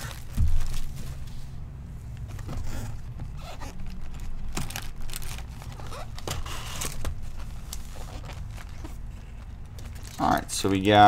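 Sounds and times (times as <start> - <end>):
cardboard and foil rustling: 0.0 - 1.6, 2.3 - 11.0.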